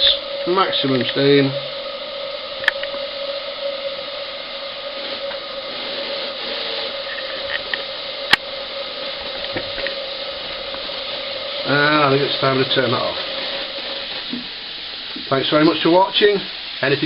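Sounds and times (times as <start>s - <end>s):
gas burner: 0.0s - 17.0s
steam hissing from safety valve: 0.0s - 17.0s.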